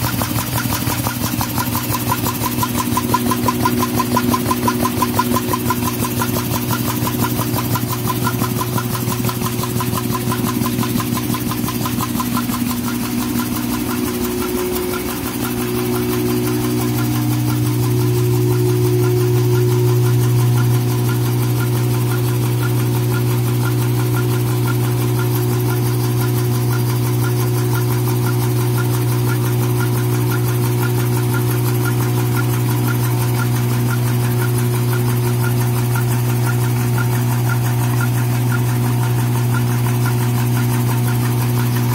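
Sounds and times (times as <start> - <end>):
paper machine low hum: 0.0 - 41.9.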